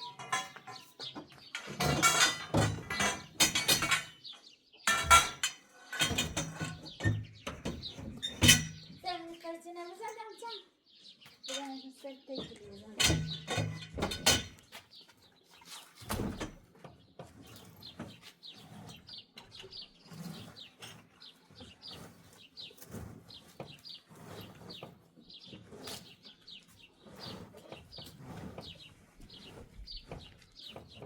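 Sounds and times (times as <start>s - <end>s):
birds chirping: 0.0s - 15.8s, 16.9s - 31.0s.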